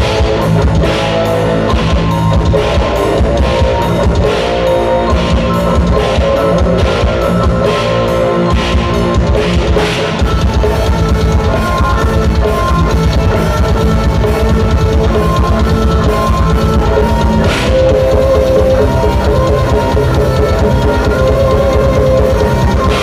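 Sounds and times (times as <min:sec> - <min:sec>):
distorted guitars: 0:00.0 - 0:23.0
drum kit: 0:00.0 - 0:23.0
keyboard: 0:00.0 - 0:23.0.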